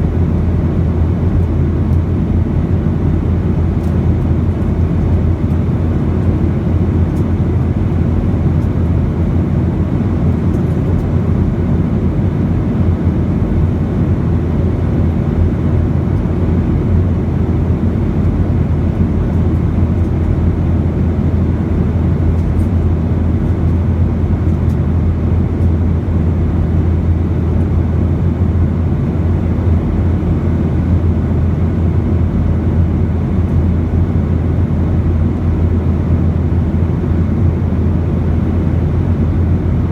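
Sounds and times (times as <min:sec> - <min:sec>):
aircraft cabin engine noise: 0:00.0 - 0:39.9.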